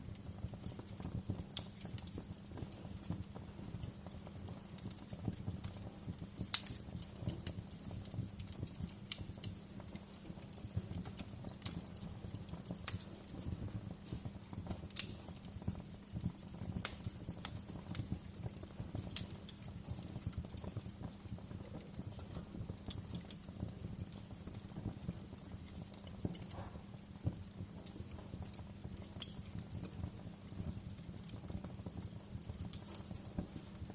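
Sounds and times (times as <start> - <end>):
low rumble of burning fire: 0.0 - 33.9
wood fire crackling: 0.0 - 33.9.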